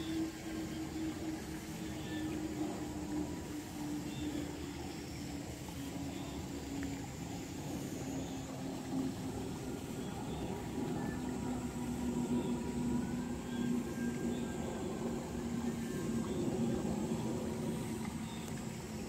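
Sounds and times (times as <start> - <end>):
constant even hiss: 0.0 - 19.0
low droning hum: 0.0 - 19.0.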